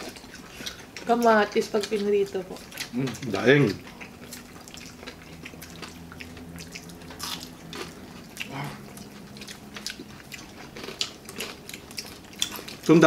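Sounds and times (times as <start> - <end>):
people chewing and lip smacking: 0.0 - 13.0.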